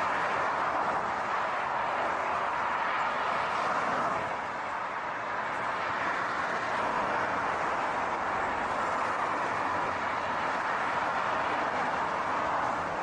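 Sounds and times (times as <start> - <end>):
vehicle running noise: 0.0 - 13.0.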